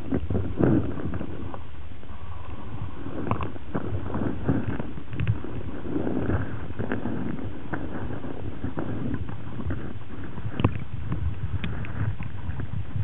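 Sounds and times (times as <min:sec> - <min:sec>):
muffled underwater splashing: 0:00.0 - 0:13.0.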